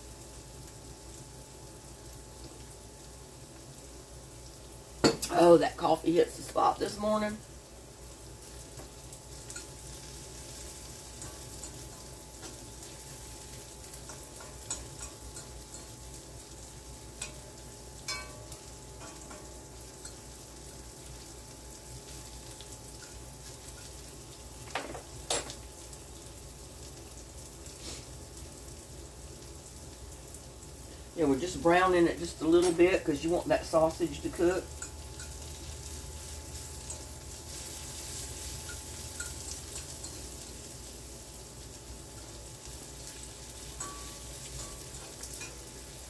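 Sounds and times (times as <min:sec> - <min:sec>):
food sizzling in skillet: 0:00.0 - 0:46.0.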